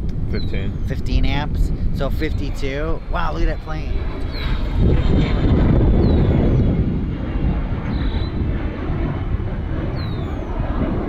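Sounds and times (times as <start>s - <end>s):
small airplane flying overhead: 0.0s - 11.0s.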